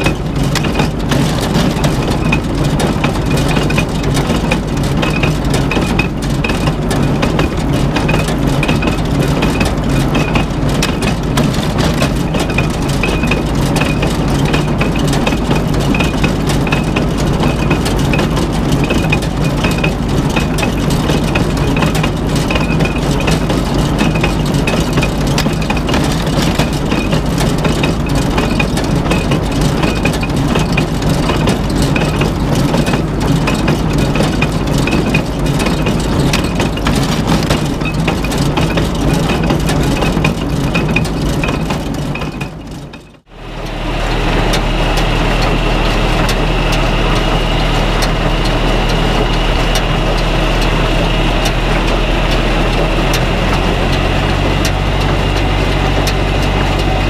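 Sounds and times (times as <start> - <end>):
baler clattering and knocking: 0.0 - 43.3, 44.0 - 57.0
tractor engine running: 0.0 - 57.0.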